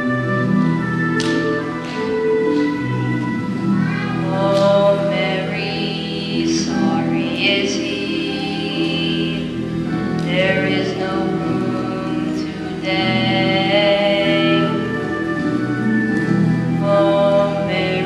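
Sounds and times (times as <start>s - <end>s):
children singing slow song: 2.5s - 18.0s.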